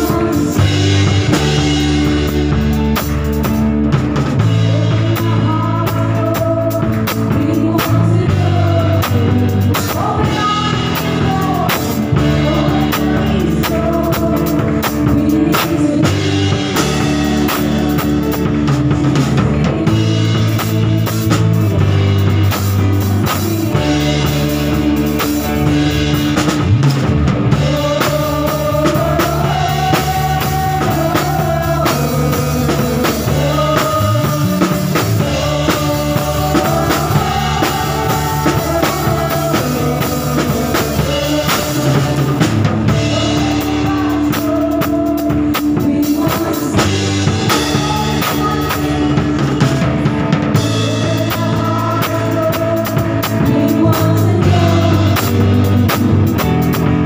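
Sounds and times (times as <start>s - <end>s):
person singing: 0.0s - 2.8s, 4.4s - 26.7s, 27.4s - 57.0s
drum kit playing: 0.0s - 57.0s
guitar and bass: 0.0s - 57.0s.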